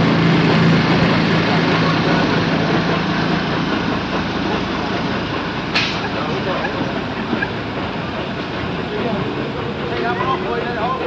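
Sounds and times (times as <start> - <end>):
rumble of wheels on rail: 0.0 - 11.0.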